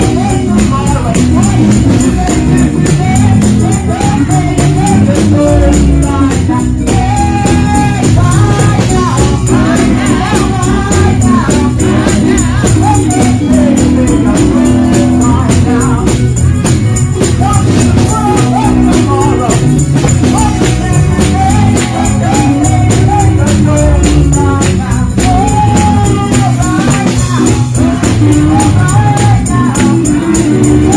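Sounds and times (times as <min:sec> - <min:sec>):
band with driving beat: 0:00.0 - 0:30.9
group singing gospel: 0:00.0 - 0:30.9.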